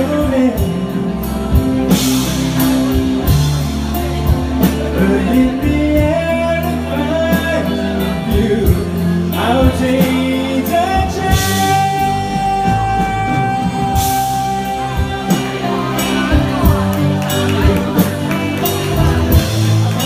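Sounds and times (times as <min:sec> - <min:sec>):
live band with singing: 0:00.0 - 0:20.0.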